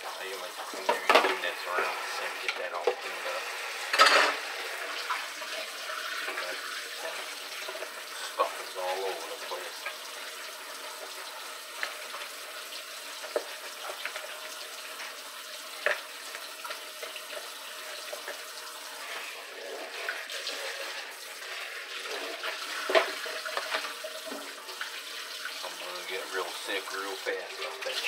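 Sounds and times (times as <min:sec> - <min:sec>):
faucet running into metal sink: 0:00.0 - 0:28.0.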